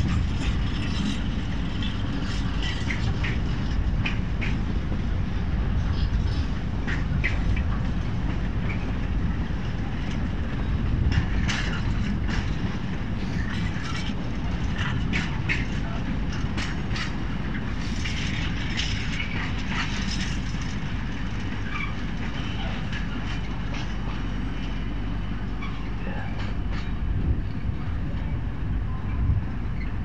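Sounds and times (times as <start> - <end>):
clicks of train wheels: 0.0 - 5.1, 5.7 - 28.3
train wheels rumbling on rail: 0.0 - 30.0.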